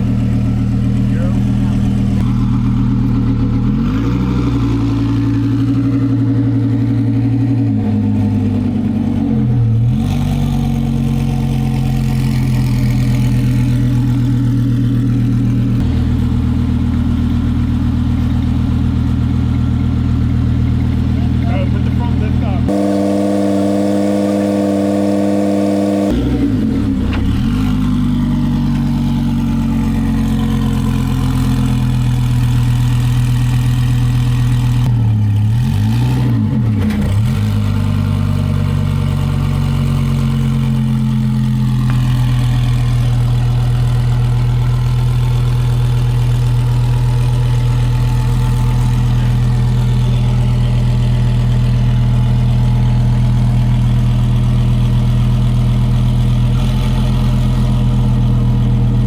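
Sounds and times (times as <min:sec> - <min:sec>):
sports car engine idling: 0:00.0 - 0:35.5, 0:37.8 - 0:59.0.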